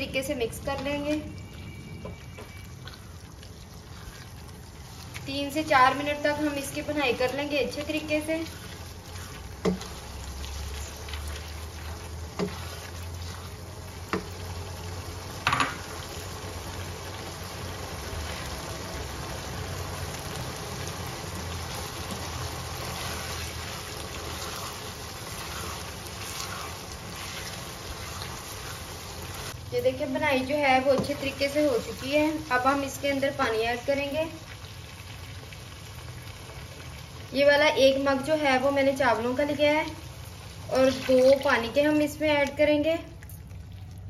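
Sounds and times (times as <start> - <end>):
food sizzling in a wok: 2.6 - 42.4.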